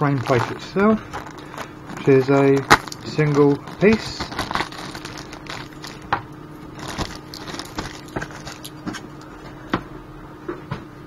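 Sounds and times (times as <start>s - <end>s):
rustling handling noise: 0.0s - 9.7s.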